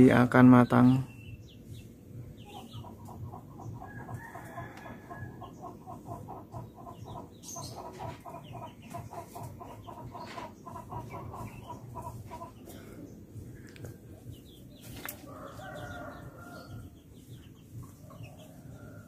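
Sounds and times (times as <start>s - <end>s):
chicken clucking: 1.7s - 19.0s.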